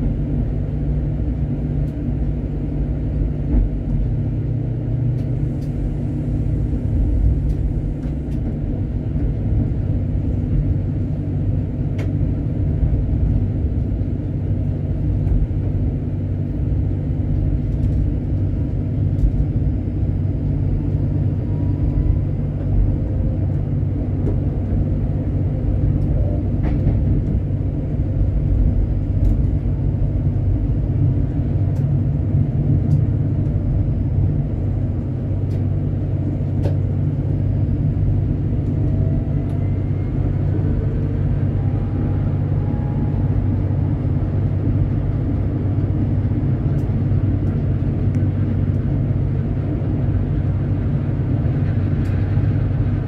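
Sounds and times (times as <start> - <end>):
tram rumbling along track: 0.0 - 53.0.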